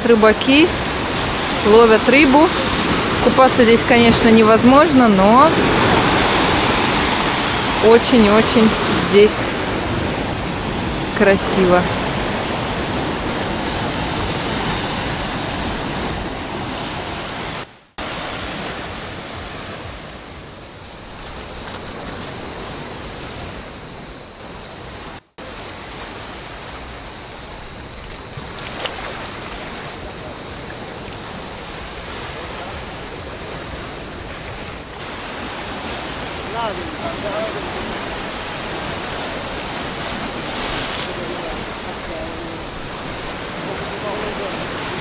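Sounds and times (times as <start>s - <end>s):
waves breaking on rocky shore: 0.0s - 45.0s.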